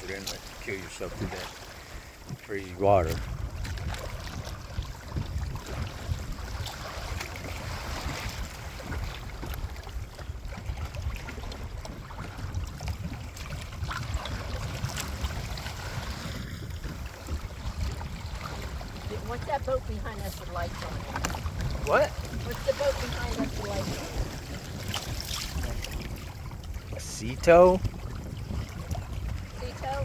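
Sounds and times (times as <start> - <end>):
water rushing past boat: 0.0 - 30.0
wind buffeting microphone: 0.0 - 30.0.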